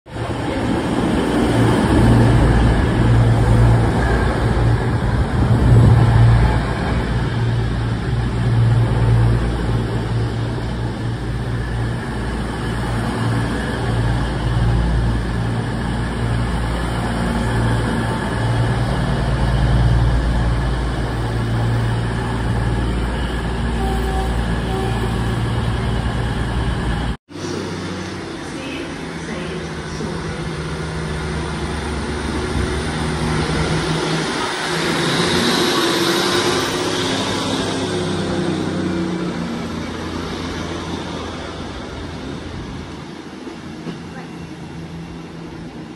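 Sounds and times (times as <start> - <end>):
diesel train engine drone: 0.1 - 45.9.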